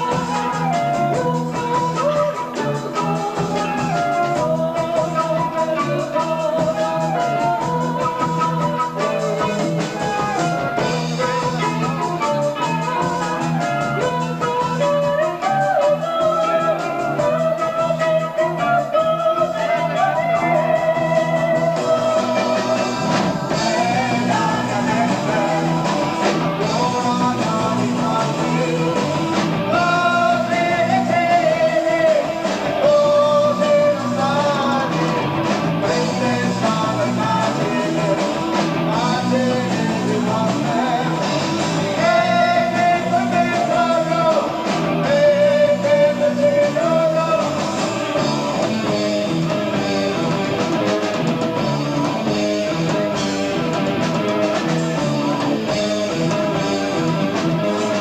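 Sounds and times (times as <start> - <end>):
person singing: 0.0 - 50.9
rock band playing: 0.0 - 58.0.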